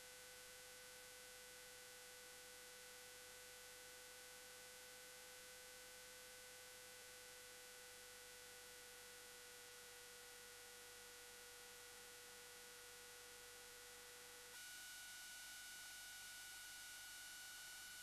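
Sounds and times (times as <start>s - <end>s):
faint electronic hum and hiss: 0.0s - 18.0s.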